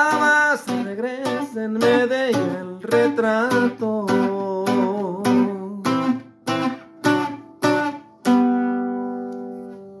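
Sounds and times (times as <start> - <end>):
double-course guitar strummed chords: 0.0 - 10.0.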